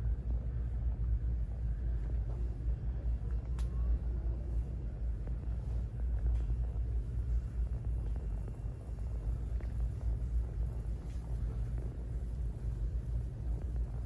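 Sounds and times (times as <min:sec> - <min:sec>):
store background rumble: 0:00.0 - 0:14.0.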